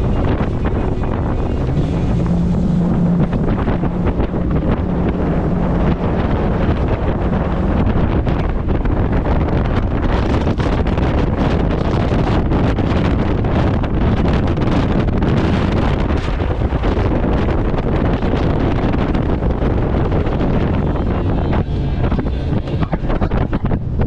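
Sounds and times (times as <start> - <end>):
outboard motor running: 0.0 - 24.0
wind buffeting microphone: 0.0 - 24.0.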